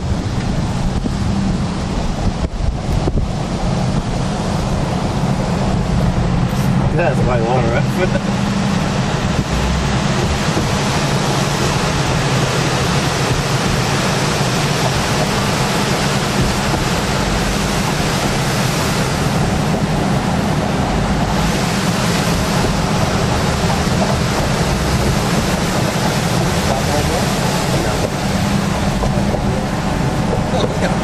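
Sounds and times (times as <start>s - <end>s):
car road and wind noise: 0.0s - 31.0s
floodwater rushing: 0.0s - 31.0s.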